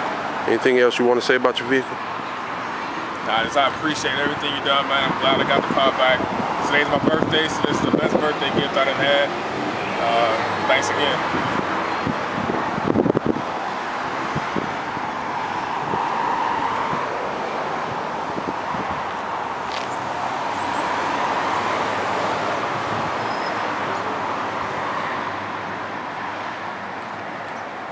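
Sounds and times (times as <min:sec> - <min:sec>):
road traffic rushing: 0:00.0 - 0:27.9.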